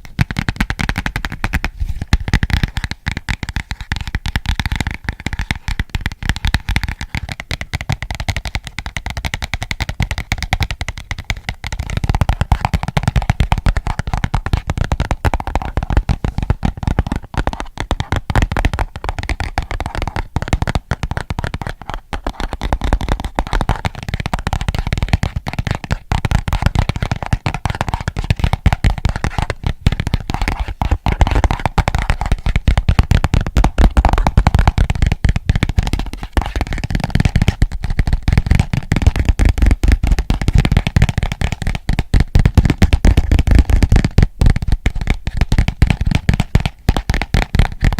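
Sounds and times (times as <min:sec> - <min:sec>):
fingertip and nail tapping: 0:00.0 - 0:47.9.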